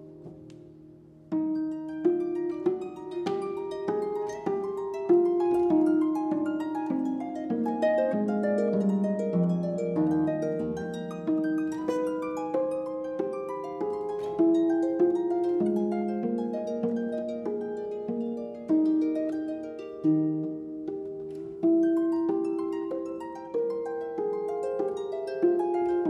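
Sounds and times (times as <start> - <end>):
harp plucked melody: 0.0 - 26.0.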